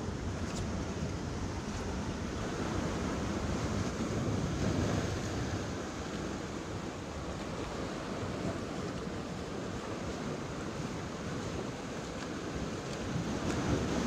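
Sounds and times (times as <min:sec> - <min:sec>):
small waves breaking on rocks: 0:00.0 - 0:14.0
wind rumbling on microphone: 0:00.0 - 0:14.0.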